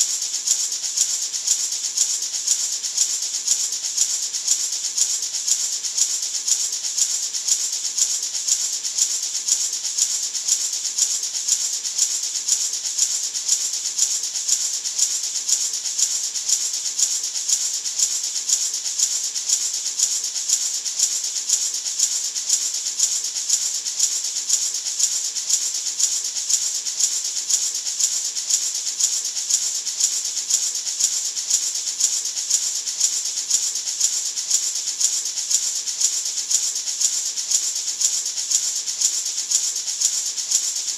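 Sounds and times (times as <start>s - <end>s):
maraca rattling: 0.0s - 40.9s.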